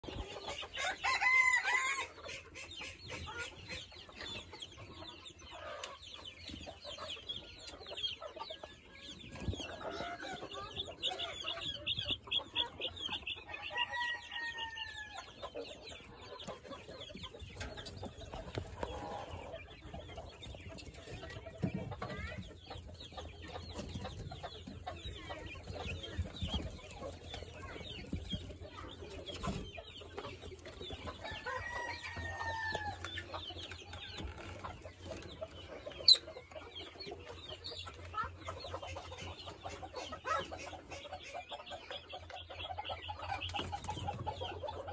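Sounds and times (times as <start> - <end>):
quail chirping: 0.0 - 44.9.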